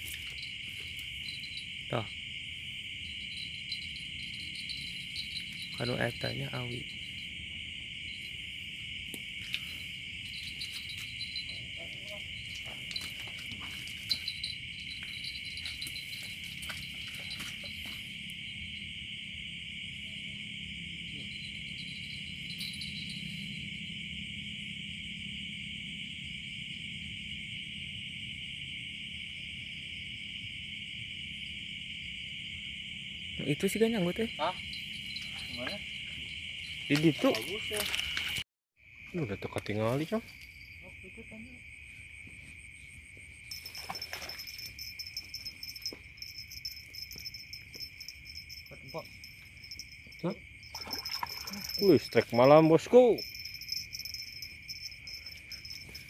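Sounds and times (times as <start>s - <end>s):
crickets droning: 0.0s - 56.0s
night insects chirring: 0.0s - 56.0s.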